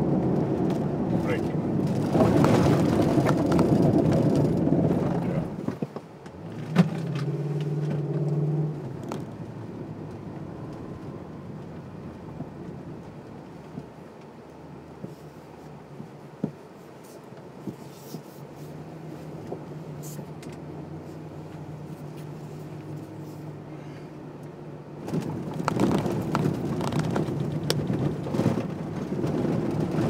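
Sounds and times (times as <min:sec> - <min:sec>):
car engine rumbling in cabin: 0:00.0 - 0:30.0.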